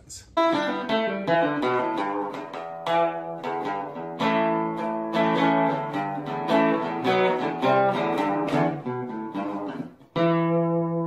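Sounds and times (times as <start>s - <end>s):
acoustic guitar picking: 0.3s - 11.0s.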